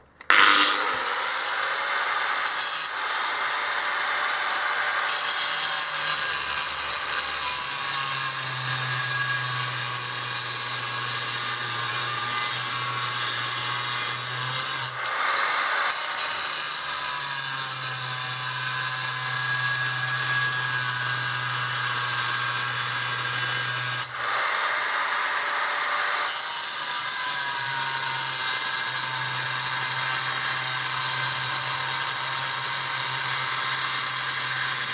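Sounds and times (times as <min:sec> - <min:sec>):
angle grinder whining: 0:00.0 - 0:34.9.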